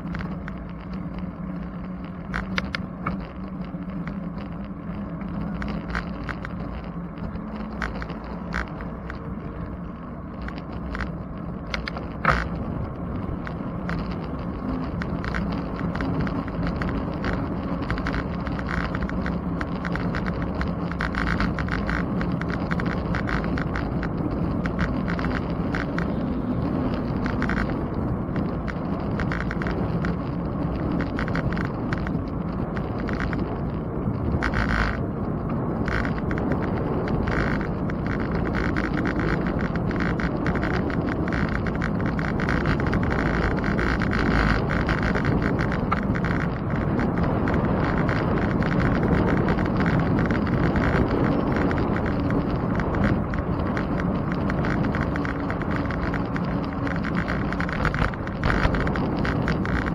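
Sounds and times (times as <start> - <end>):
bicycle tyre and wind rumble: 0.0 - 59.9
bike rattles and clicks: 0.0 - 59.9.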